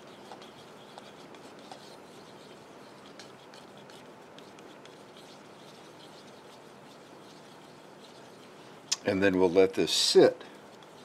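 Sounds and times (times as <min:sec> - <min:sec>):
stirrer scraping plastic cup: 0:00.0 - 0:08.9, 0:09.5 - 0:11.0.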